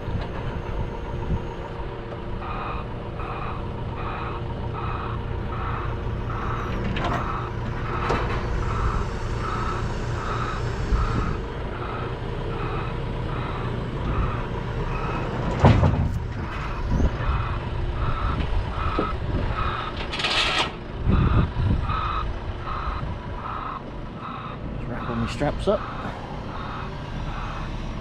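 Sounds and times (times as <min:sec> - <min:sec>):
diesel engine running: 0:00.0 - 0:28.0
reversing alarm beeping: 0:00.0 - 0:28.0.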